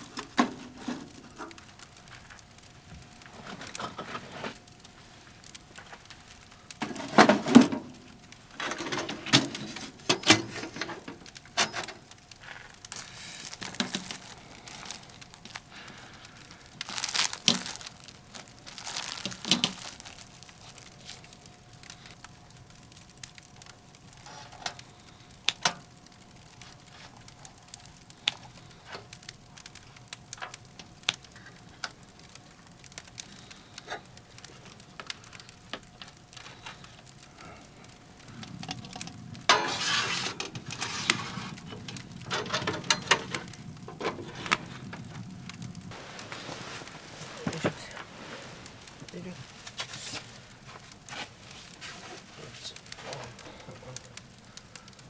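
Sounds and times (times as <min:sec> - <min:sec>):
light crackles and clicks: 0:00.0 - 0:55.0
material crinkling and rustling: 0:00.0 - 0:55.0.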